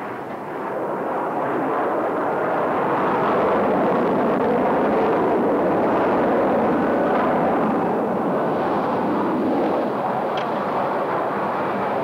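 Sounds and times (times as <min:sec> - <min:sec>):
jet engines at high power: 0:00.0 - 0:12.0.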